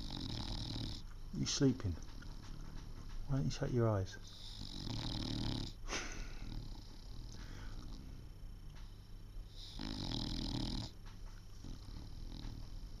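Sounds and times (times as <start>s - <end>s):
dog snoring: 0.0s - 13.0s.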